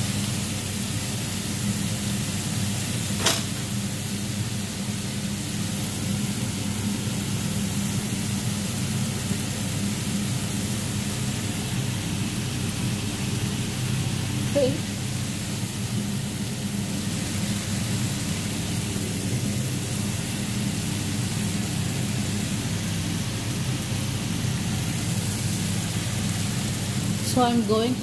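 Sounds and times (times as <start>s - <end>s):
food sizzling on a stovetop: 0.0s - 28.0s.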